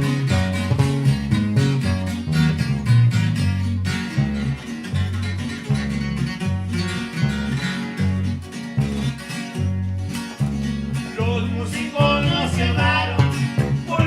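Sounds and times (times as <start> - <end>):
bass line: 0.0 - 14.0
strummed guitar: 0.0 - 14.0.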